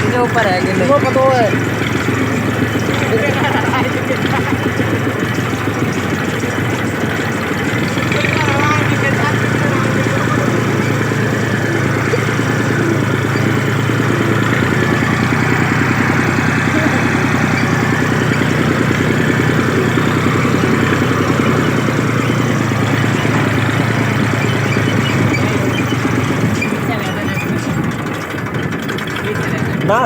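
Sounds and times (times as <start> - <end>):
old tractor engine running: 0.0 - 30.0.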